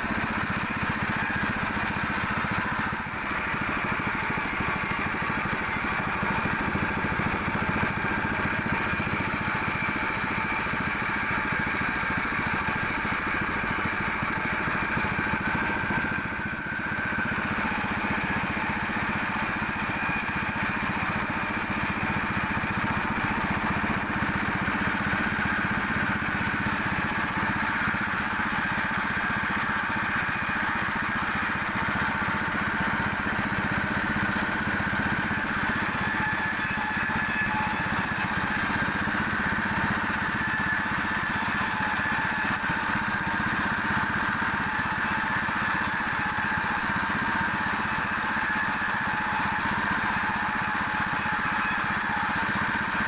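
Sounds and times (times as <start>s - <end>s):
high machine whine: 0.0s - 53.0s
sawmill machinery hum: 0.0s - 53.0s.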